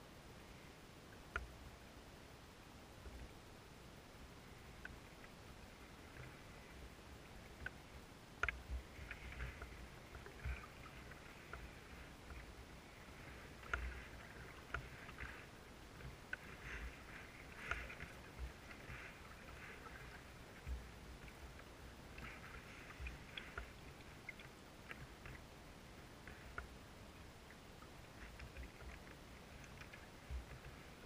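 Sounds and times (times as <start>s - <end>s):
paddle splashes and drips: 4.6s - 31.0s.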